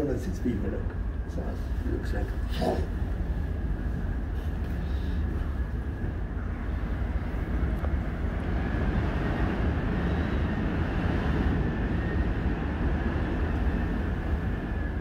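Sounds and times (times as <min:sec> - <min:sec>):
cable car cabin rumble and hum: 0:00.0 - 0:15.0.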